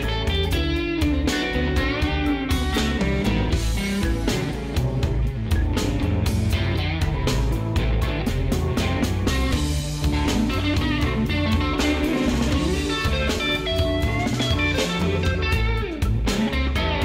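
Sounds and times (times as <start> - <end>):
drums with a steady beat: 0.0 - 17.0
guitar: 0.0 - 17.0.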